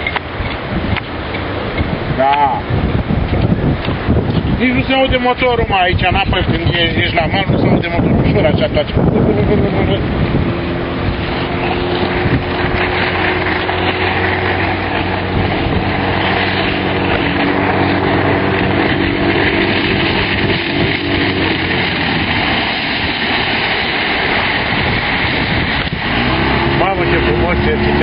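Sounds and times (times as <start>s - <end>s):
outboard motor drone: 0.0s - 28.0s
rushing water noise: 0.0s - 28.0s.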